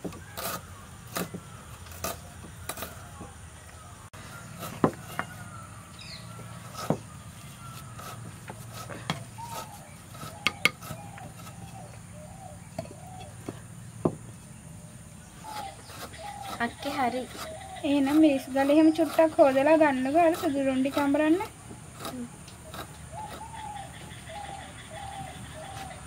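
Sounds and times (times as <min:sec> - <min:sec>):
birds chirping: 0:00.1 - 0:26.0.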